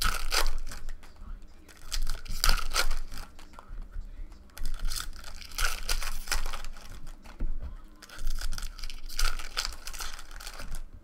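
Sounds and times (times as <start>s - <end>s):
foil wrappers tearing and crinkling: 0.0s - 3.7s, 4.5s - 7.3s, 8.0s - 10.9s.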